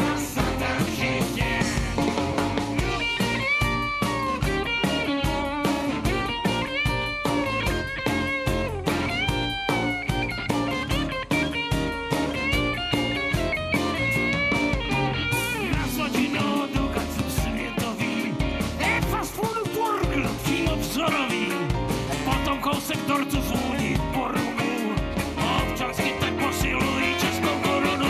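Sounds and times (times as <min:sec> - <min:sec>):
bass: 0:00.0 - 0:28.0
drums: 0:00.0 - 0:28.0
electric guitar lead line: 0:00.0 - 0:28.0.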